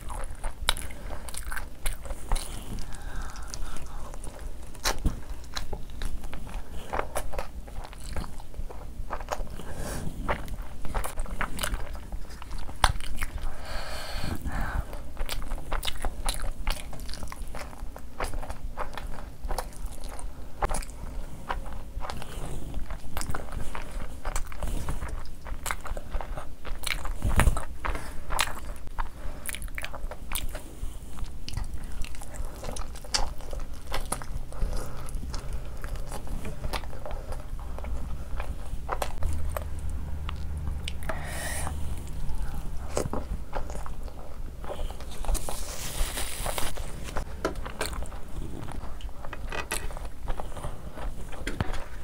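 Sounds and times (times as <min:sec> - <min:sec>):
chewing with mouth clicks: 0:00.0 - 0:52.0.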